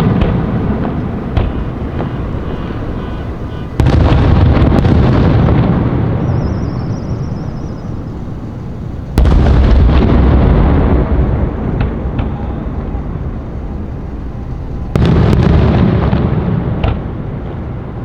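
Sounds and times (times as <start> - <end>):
firework crackles: 0.0 - 18.0
firework shells booming: 0.0 - 18.0
rolling rumble: 0.0 - 18.0.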